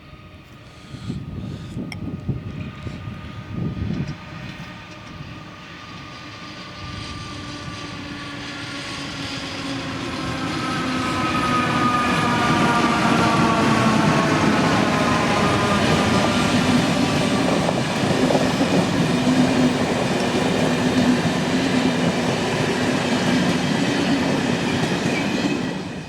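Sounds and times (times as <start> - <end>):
steady whining tones: 0.0 - 26.0
train rumbling on rails: 0.0 - 26.0.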